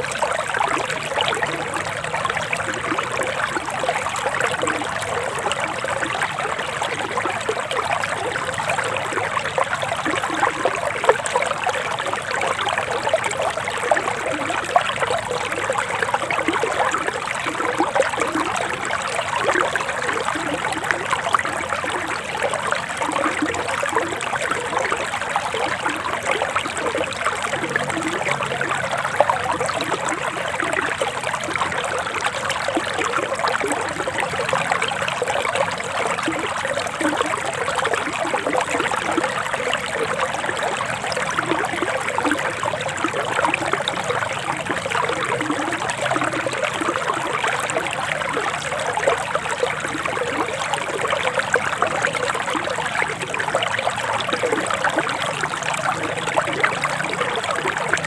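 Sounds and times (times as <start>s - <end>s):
river flowing and trickling: 0.0s - 58.0s.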